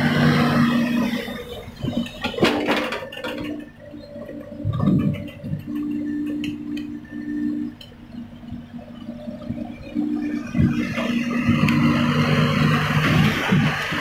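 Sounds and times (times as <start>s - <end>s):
excavator engine running: 0.0s - 14.0s.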